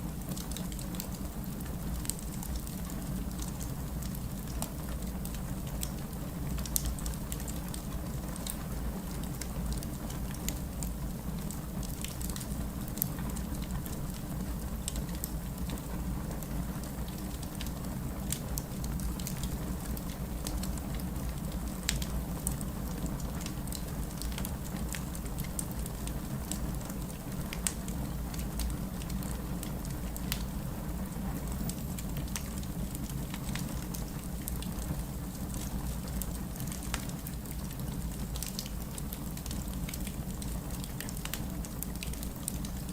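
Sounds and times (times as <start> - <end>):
rain: 0.0 - 42.9
wood fire crackling and popping: 0.1 - 42.9.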